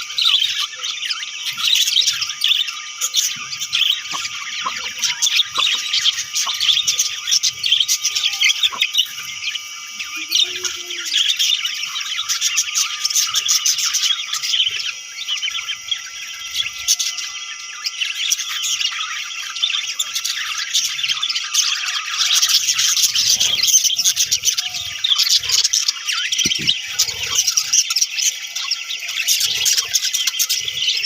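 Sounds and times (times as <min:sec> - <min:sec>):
flock of budgerigars chirping: 0:00.0 - 0:31.0.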